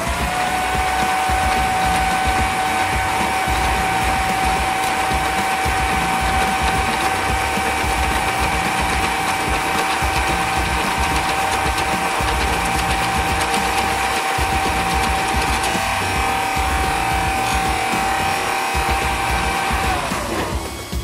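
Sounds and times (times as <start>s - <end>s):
power hacksaw sawing metal tube: 0.0s - 21.0s.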